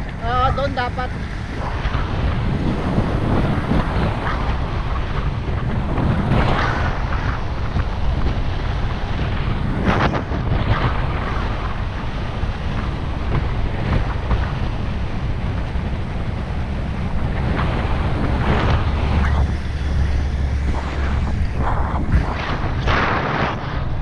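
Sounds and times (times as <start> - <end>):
vehicle engine and tyres rumbling: 0.0 - 24.0
wind on microphone: 0.0 - 24.0.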